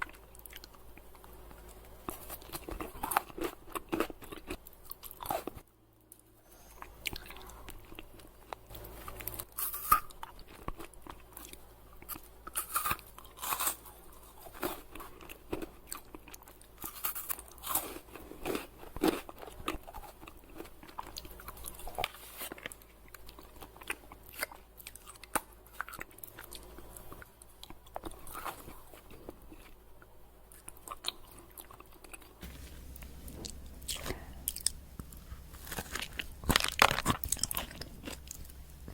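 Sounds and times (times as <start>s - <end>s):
chewing and crunching candy: 0.0s - 38.9s.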